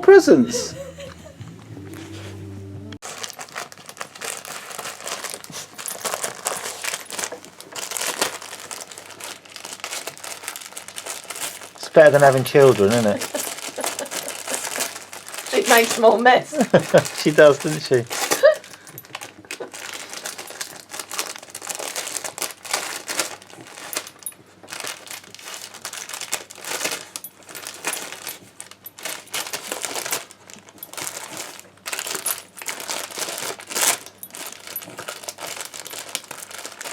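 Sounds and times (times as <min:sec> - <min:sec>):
wrapping paper crinkling and tearing: 0:03.0 - 0:36.9.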